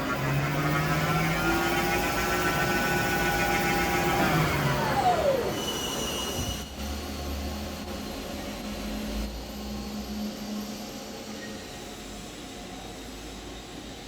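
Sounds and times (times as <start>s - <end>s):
lathe whining and spinning down: 0.0s - 12.2s.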